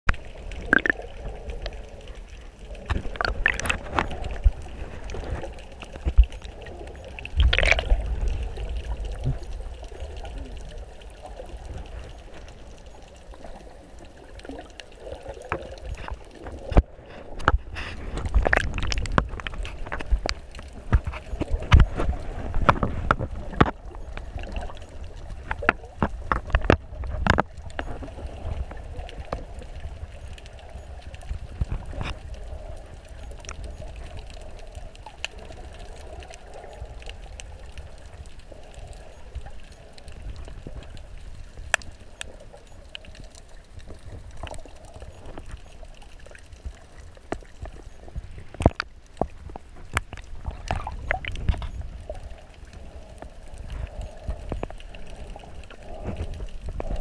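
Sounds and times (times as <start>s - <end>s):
underwater water rumble gurgling: 0.1s - 57.0s.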